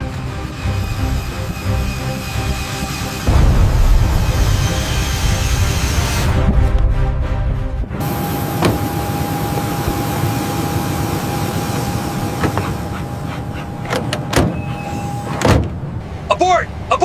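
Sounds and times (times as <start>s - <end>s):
aircraft in flight: 0.0s - 7.1s, 7.9s - 17.0s.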